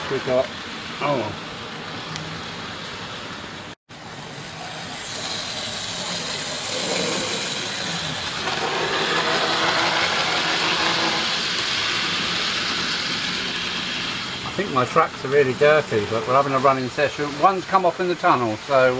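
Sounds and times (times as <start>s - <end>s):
model trains whirring on track: 0.0s - 18.9s.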